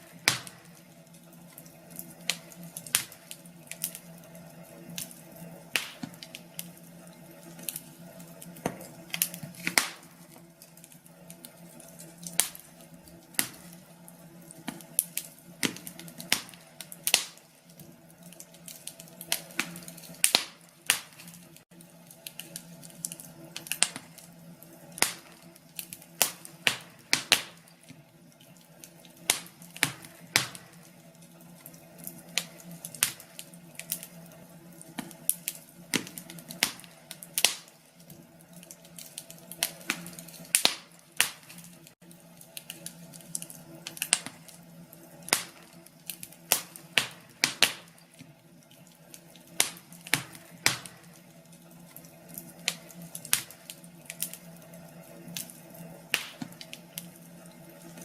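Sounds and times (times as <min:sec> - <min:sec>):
faint steady hum: 0:00.0 - 0:58.0
wood fire crackling: 0:00.0 - 0:58.0.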